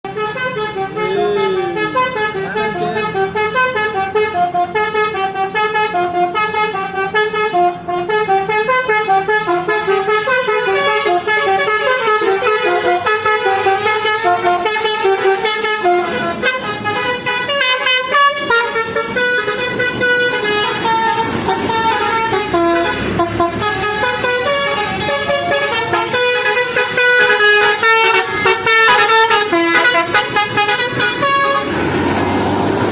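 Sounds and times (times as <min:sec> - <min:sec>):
air horn playing a melody: 0:00.1 - 0:31.8.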